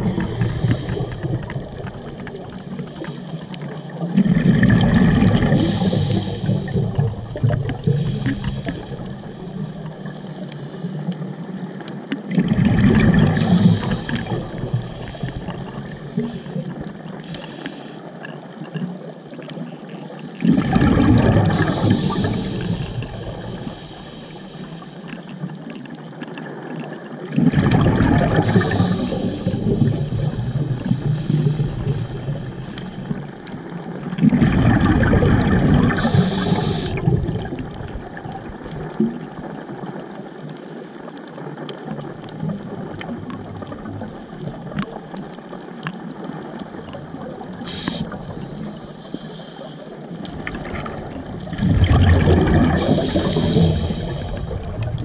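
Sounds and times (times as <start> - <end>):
low underwater hiss: 0.0 - 55.0
scuba bubbles gurgling: 0.0 - 55.0.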